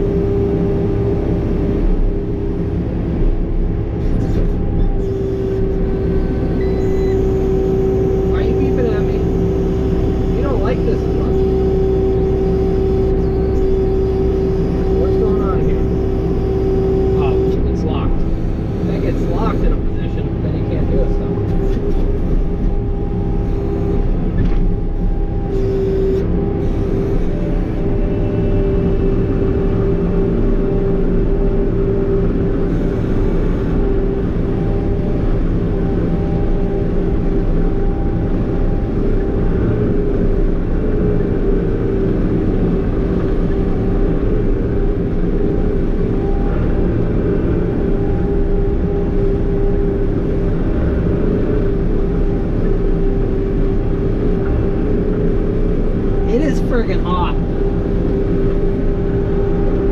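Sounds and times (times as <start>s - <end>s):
constant hum: 0.0s - 59.9s
farm machine engine running: 0.0s - 59.9s.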